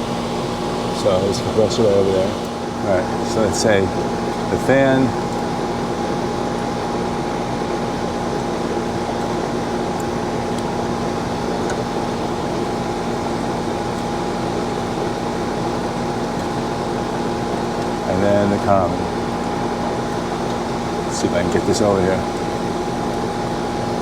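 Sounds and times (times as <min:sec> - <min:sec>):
air conditioning unit humming: 0:00.0 - 0:24.0
fan noise: 0:00.0 - 0:24.0.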